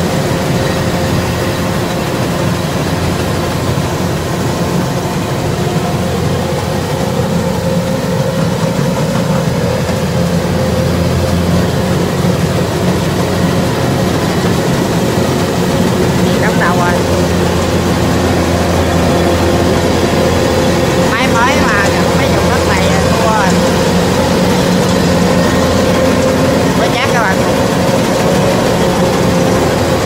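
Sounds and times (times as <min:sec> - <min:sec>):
combine harvester diesel engine: 0:00.0 - 0:30.0.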